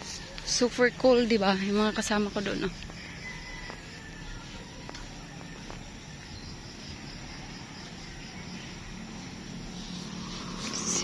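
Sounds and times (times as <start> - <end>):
insects chirping faintly: 0.0 - 11.0
low outdoor rumble: 0.0 - 11.0.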